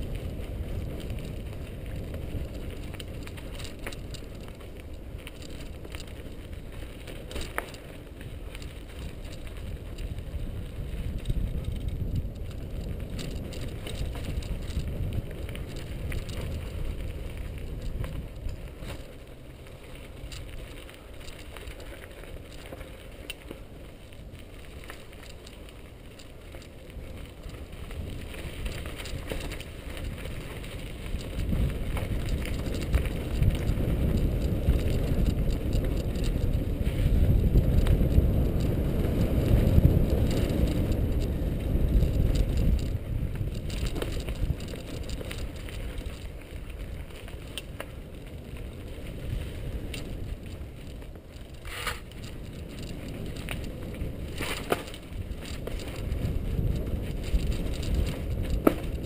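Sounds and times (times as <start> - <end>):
bike rattling and clicking: 0.0 - 59.0
bike tyres on loose dirt: 0.0 - 59.0
wind rumbling on microphone: 0.0 - 59.0.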